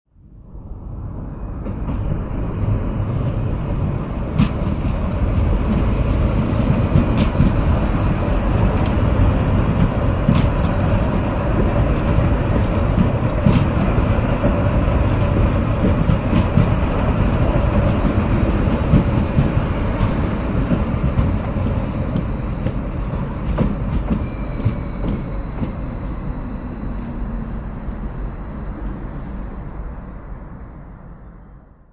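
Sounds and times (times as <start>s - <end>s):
train wheels rumbling on rails: 0.3s - 31.6s
wheels clicking on rail joints: 3.1s - 30.0s.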